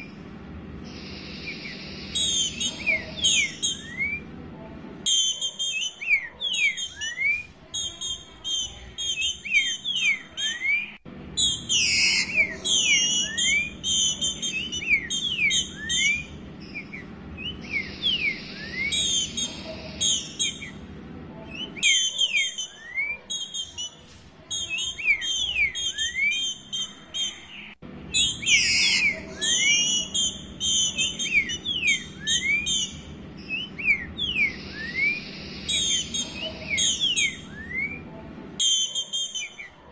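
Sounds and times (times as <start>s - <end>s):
bird chattering and whistling: 0.0s - 4.3s, 5.0s - 39.9s.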